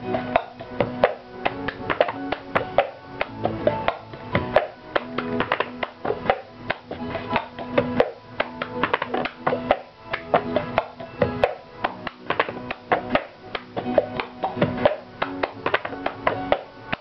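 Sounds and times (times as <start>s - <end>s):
music: 0.0s - 17.0s
hand claps: 0.2s - 17.0s.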